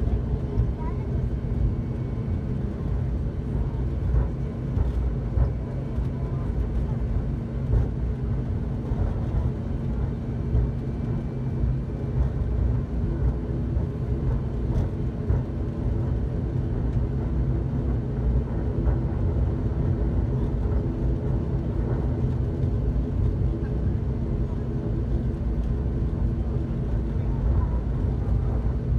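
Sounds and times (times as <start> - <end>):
turboprop engine drone: 0.0 - 28.9.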